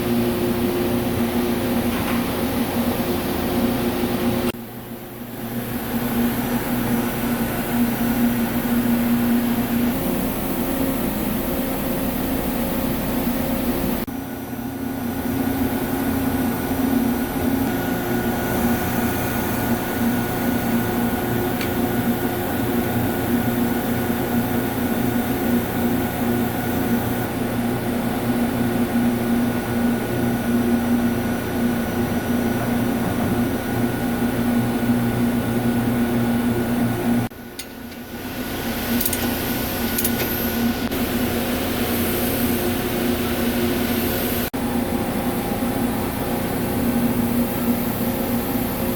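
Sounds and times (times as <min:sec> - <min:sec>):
lathe machine hum: 0:05.2 - 0:48.9.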